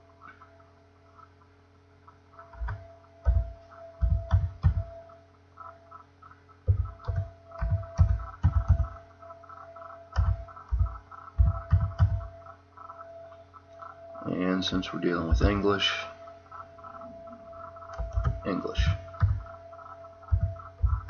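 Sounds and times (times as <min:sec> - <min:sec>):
steady electrical hum: 0:00.0 - 0:21.0
keyboard typing: 0:02.3 - 0:21.0.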